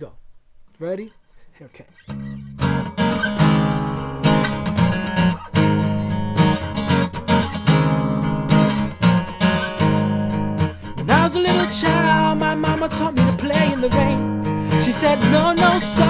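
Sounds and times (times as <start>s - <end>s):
acoustic guitar strumming: 1.9s - 16.0s.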